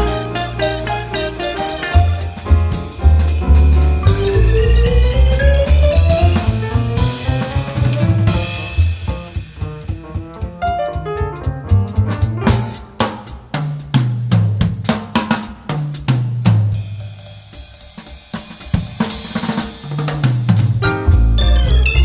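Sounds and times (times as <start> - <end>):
background music with drum beat: 0.0 - 22.0.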